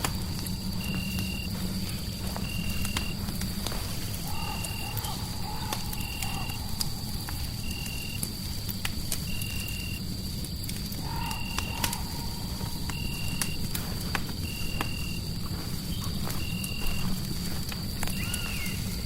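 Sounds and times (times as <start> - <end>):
fire pops and crackles: 0.0 - 19.0
fireplace rumble: 0.0 - 19.0
steady high insect whine: 0.0 - 19.0.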